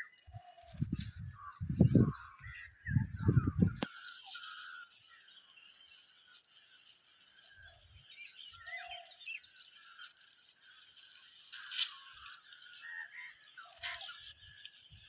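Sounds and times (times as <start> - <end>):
birds chirping: 0.0 - 15.0
sickle snapping dry stalks: 0.6 - 2.6, 3.2 - 15.0.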